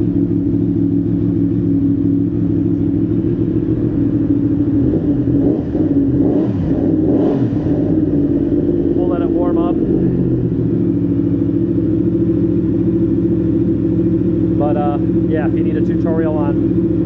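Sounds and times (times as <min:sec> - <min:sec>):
engine throttle blips: 0:00.0 - 0:17.0
motorcycle engine idling: 0:00.0 - 0:17.0.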